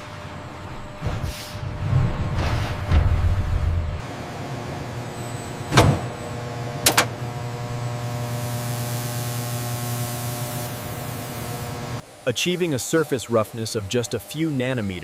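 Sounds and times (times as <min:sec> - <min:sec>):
low machine hum: 0:00.0 - 0:14.3.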